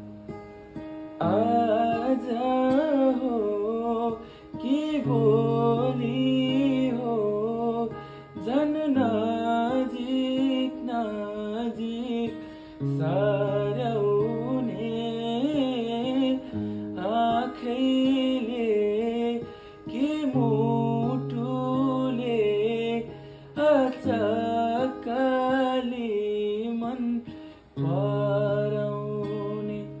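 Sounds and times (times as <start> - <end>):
acoustic guitar chords: 0.0 - 30.0
man singing: 1.2 - 30.0.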